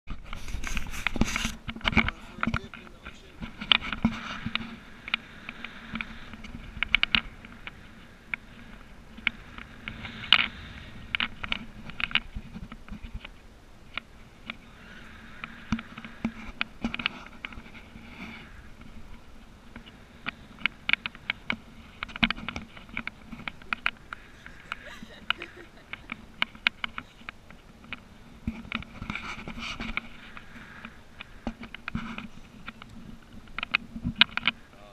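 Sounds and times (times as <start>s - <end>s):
wind on microphone: 0.1s - 34.9s
faint steady hum: 0.2s - 34.9s.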